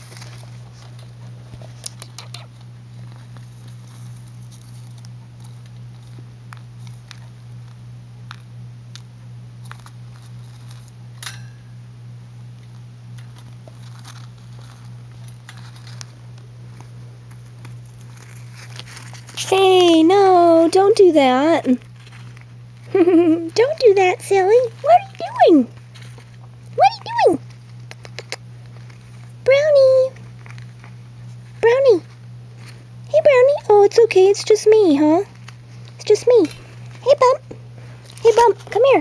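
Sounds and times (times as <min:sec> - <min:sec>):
hamsters scrabbling on plastic: 0:00.0 - 0:11.2, 0:12.5 - 0:39.0
low steady hum: 0:00.0 - 0:39.0.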